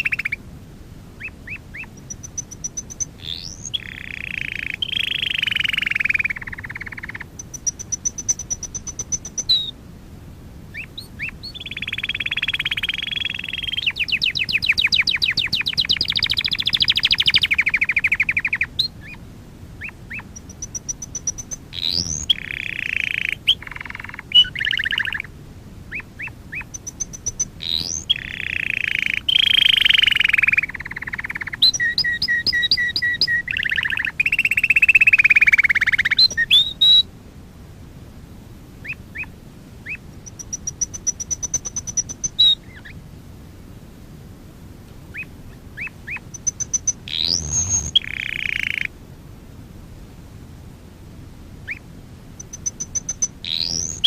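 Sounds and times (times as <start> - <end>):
canary singing trills: 0.0 - 0.4, 1.2 - 9.8, 10.7 - 37.1, 38.8 - 43.0, 45.1 - 49.0, 51.6 - 54.0.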